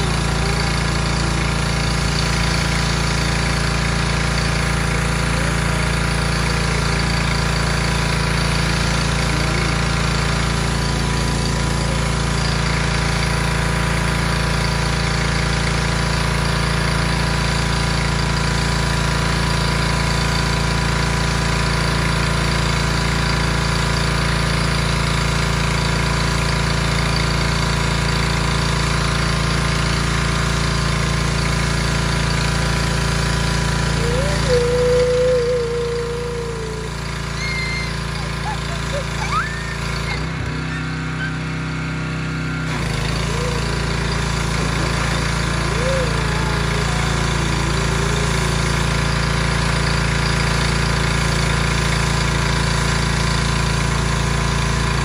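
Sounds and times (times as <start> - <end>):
high-pressure spray hissing on concrete: 0.0 - 55.0
pressure washer engine running: 0.0 - 55.0.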